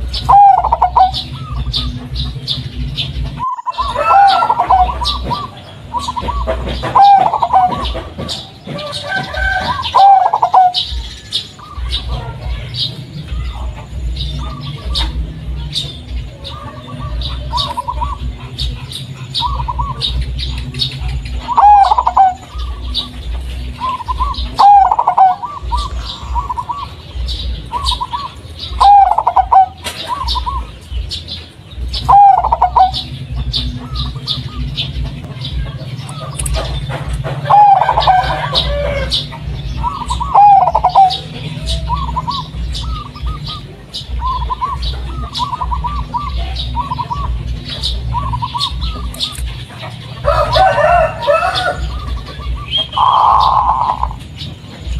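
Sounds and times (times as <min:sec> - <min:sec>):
zebra dove cooing: 0:00.0 - 0:02.7, 0:03.3 - 0:30.8, 0:32.0 - 0:54.3.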